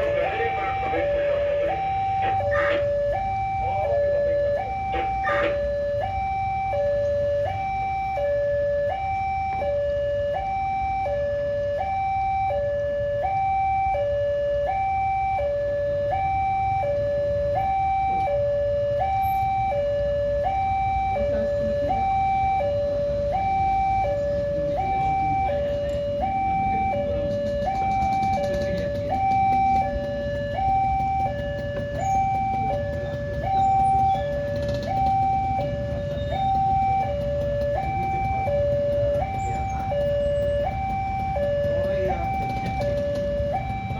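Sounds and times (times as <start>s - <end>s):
level crossing alarm tones: 0.0s - 43.9s.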